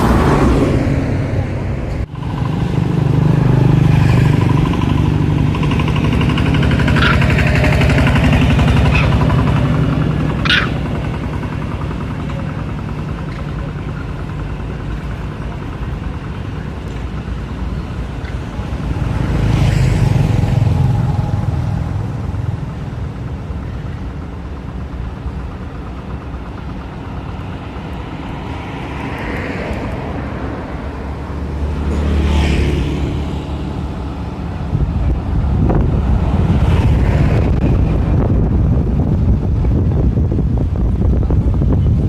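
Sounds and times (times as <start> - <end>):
vehicle passing: 0.0 - 25.2, 26.5 - 42.0
low traffic rumble: 0.0 - 42.0.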